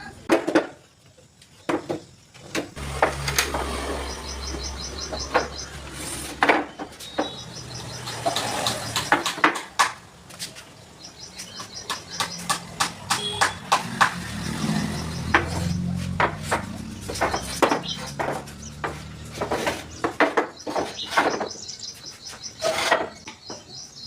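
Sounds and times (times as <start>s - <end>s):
hand tools knocking on wood: 1.7s - 5.7s, 6.4s - 10.0s, 11.4s - 23.8s.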